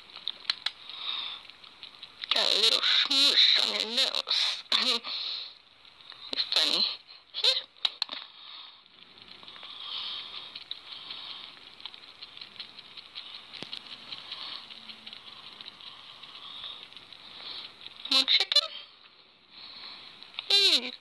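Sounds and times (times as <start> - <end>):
small animals chewing with wet clicks: 0.0 - 20.7.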